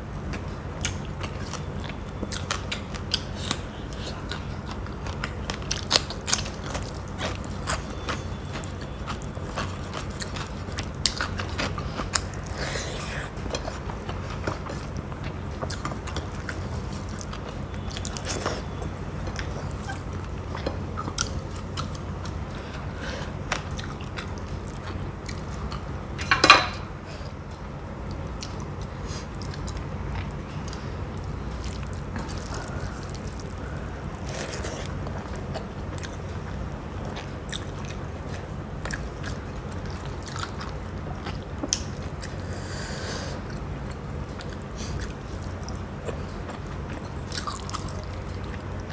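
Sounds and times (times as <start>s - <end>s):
steady low hum: 0.0s - 48.9s
person chewing food: 0.3s - 26.4s, 27.2s - 48.9s.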